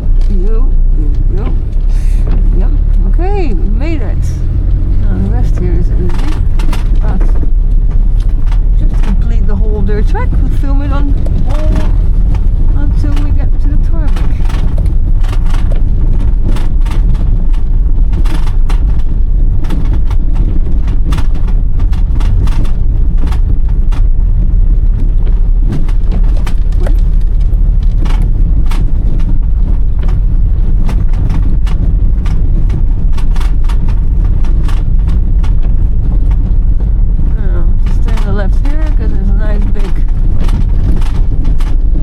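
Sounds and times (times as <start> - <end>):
car engine and tyres rumbling: 0.0 - 42.0
car knocks and rattles: 0.0 - 42.0.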